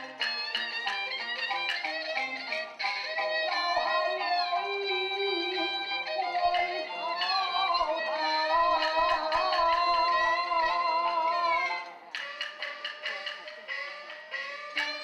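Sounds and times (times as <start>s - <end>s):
fiddle melody: 0.0s - 15.0s
percussion strokes: 0.0s - 15.0s.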